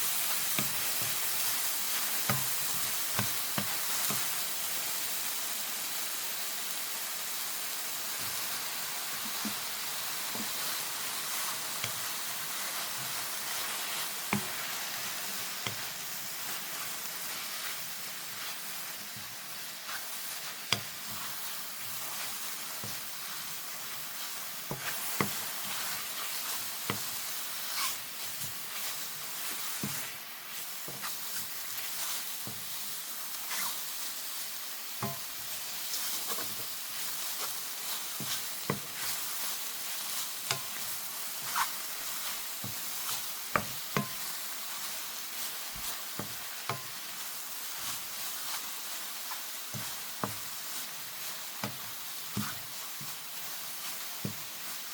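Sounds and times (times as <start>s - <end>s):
mushrooms sizzling in a pan: 0.0s - 54.9s.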